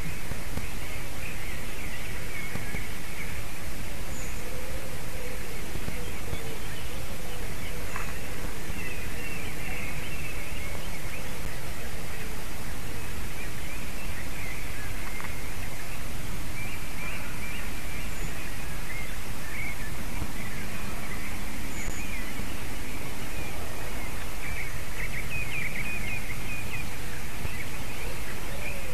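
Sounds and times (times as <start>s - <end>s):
faint bird calls: 0.0s - 28.9s
wind noise on microphone: 0.0s - 28.9s.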